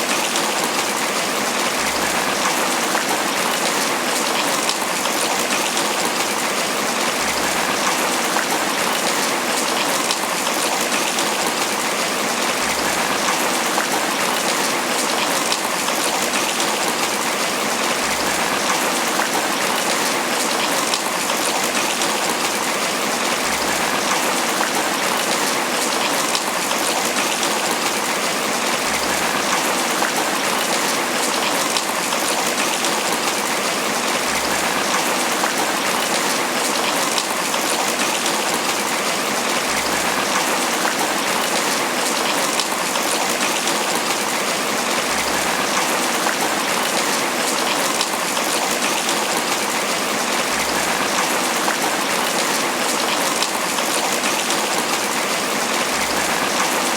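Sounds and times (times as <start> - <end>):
rain on leaves: 0.0 - 56.9.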